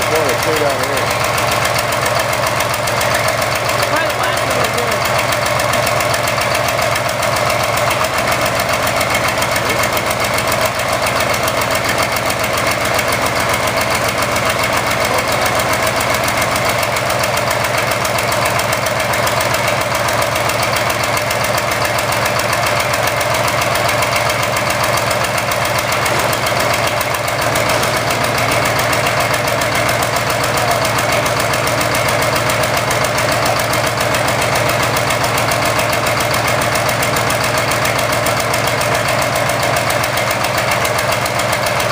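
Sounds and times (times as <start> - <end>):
engine idling with misfire: 0.0 - 41.9.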